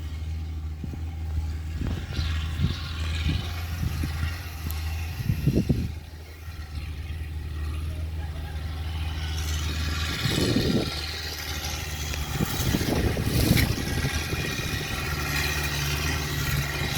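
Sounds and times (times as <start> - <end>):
motor engine humming: 0.0 - 16.9.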